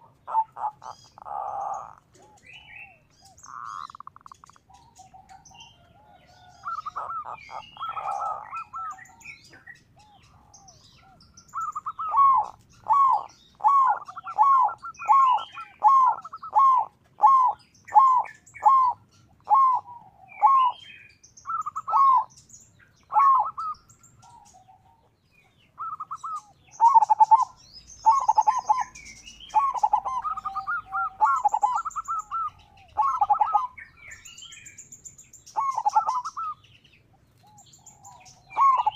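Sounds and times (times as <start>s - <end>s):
dove cooing: 0.0s - 34.8s, 35.4s - 36.6s, 37.3s - 38.9s.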